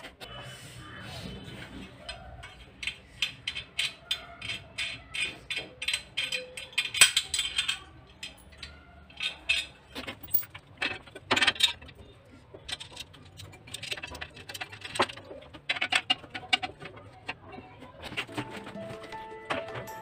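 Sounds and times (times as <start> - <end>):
metal parts clicking and scraping: 0.0 - 20.0.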